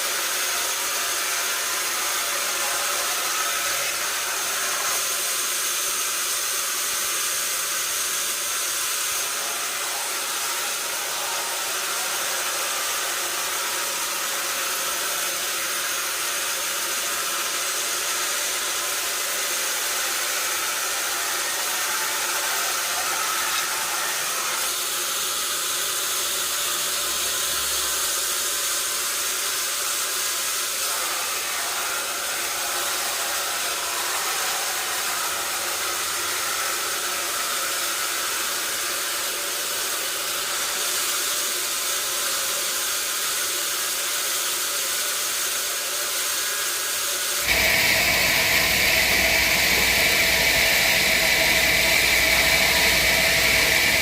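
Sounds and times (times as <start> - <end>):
sawmill saw whining: 0.0 - 54.0.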